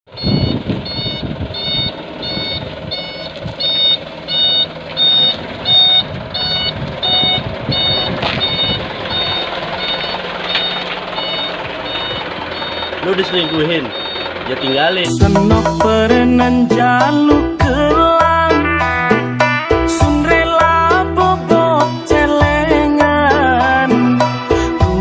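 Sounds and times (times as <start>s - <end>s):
truck reversing alarm beeping: 0.1s - 21.3s
low vehicle rumble: 0.1s - 25.0s.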